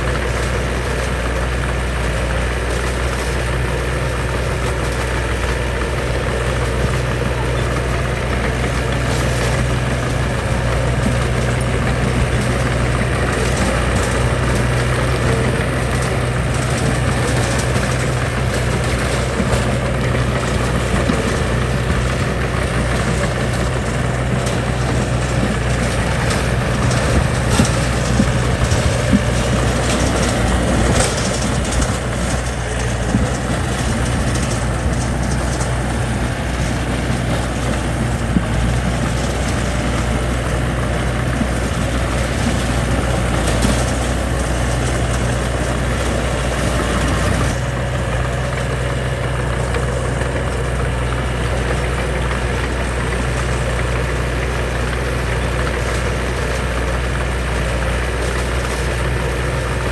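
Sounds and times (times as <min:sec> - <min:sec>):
heavy diesel engine running: 0:00.0 - 0:59.9
clunks and knocks: 0:00.1 - 0:59.6.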